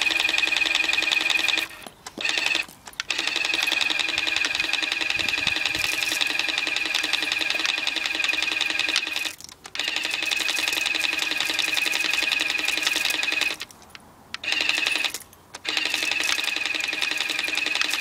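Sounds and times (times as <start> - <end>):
water blaster pump whirring: 0.0 - 13.6, 14.4 - 18.0.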